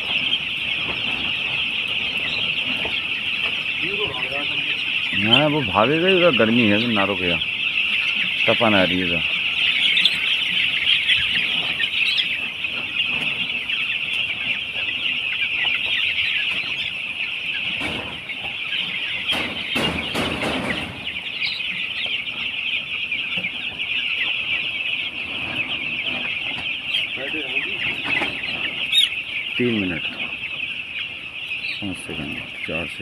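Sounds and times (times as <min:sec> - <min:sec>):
chicks cheeping: 0:00.0 - 0:33.0.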